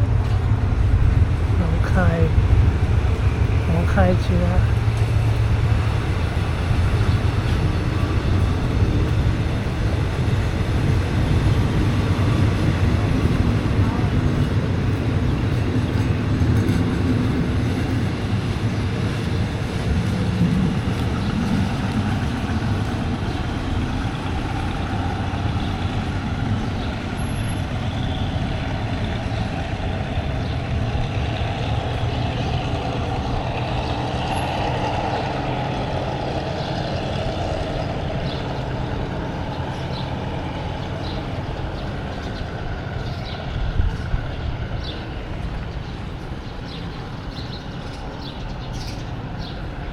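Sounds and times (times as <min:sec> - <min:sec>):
diesel train rumbling: 0:00.0 - 0:49.9.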